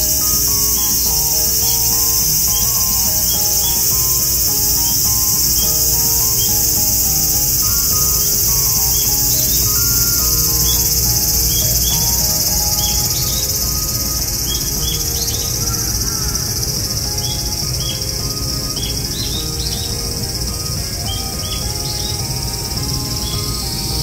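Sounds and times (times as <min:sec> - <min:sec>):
high-pitched insect chorus buzzing: 0:00.0 - 0:24.0
short insect chirps: 0:00.0 - 0:24.0
soft background music: 0:00.0 - 0:24.0.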